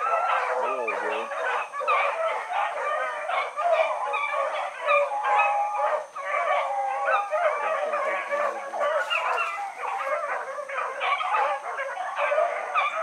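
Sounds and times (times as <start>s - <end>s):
pack of dogs baying: 0.0s - 13.0s.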